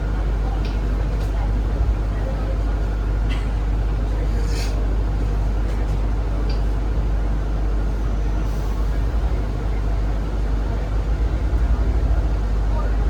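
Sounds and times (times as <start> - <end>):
bus interior rumble: 0.0 - 13.0.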